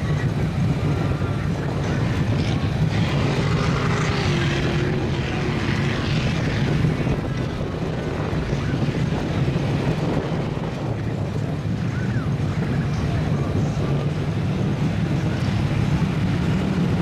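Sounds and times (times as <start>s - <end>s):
truck engine droning: 0.0s - 17.0s.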